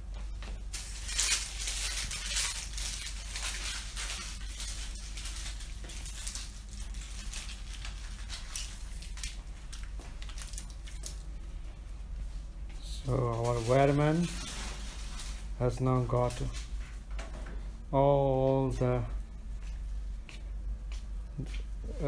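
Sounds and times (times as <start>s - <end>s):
rustling and crinkling: 0.0s - 17.8s
steady low hum: 0.0s - 22.0s.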